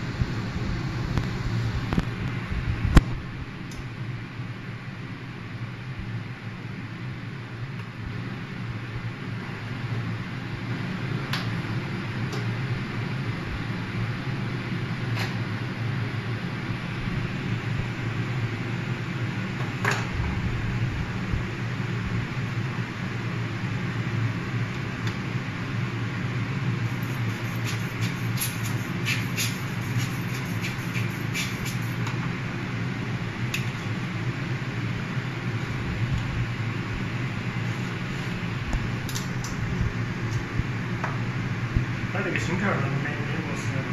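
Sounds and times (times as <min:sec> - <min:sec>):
fan humming and hissing: 0:00.0 - 0:43.9.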